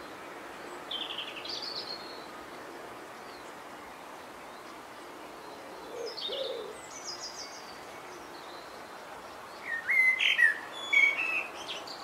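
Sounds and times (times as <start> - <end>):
small songbirds singing: 0.0 - 2.3, 3.2 - 12.0.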